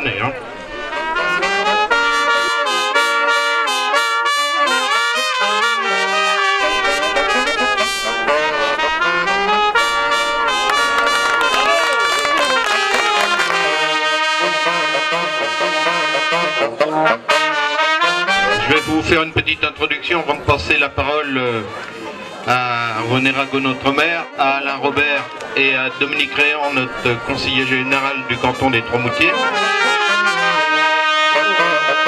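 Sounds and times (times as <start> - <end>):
trumpets playing melody: 0.0 - 20.9, 22.9 - 32.0.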